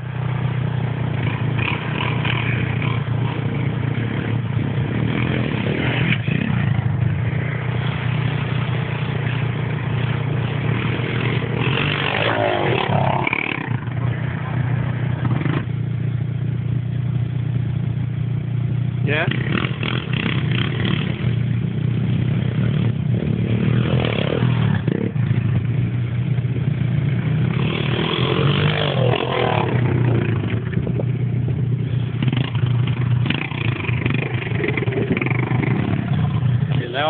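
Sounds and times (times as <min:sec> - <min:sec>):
pit bike engine running: 0:00.0 - 0:37.0.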